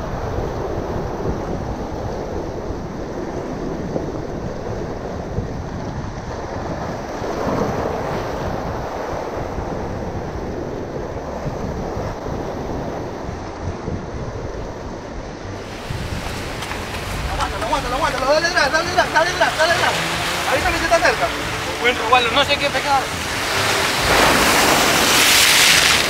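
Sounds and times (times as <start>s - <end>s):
waves and surf: 0.0s - 26.0s
wind buffeting microphone: 0.0s - 26.0s.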